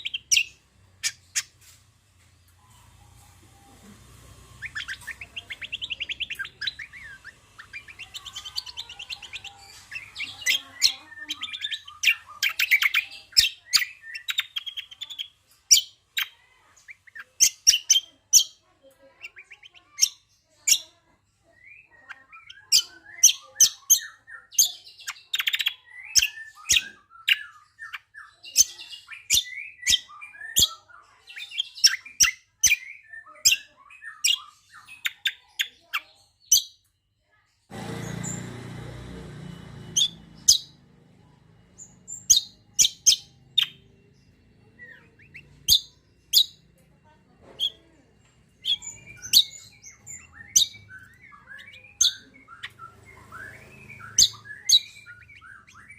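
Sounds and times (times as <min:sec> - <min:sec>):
songbird chirping trills: 0:00.0 - 0:55.9.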